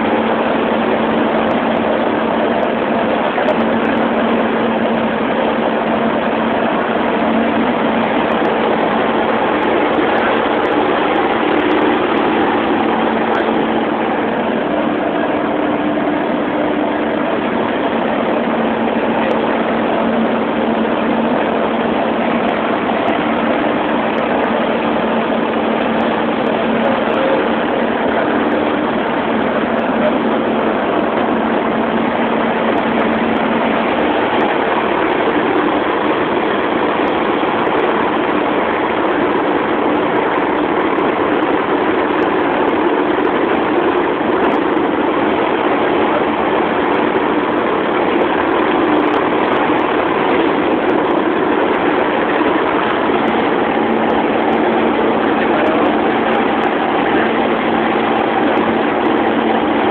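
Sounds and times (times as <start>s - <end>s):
light aircraft engine droning: 0.0s - 59.9s
low hum: 0.0s - 59.9s.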